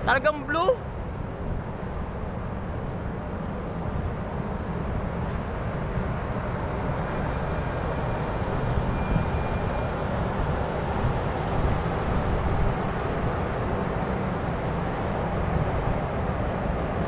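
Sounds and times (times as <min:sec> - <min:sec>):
wind buffeting microphone: 0:00.9 - 0:17.0.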